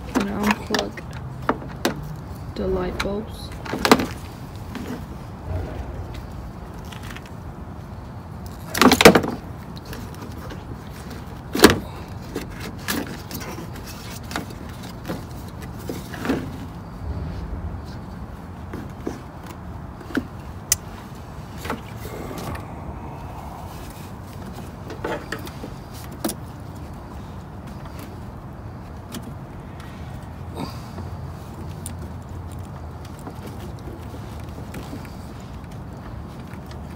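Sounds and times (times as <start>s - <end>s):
faint background noise: 0.0s - 36.9s.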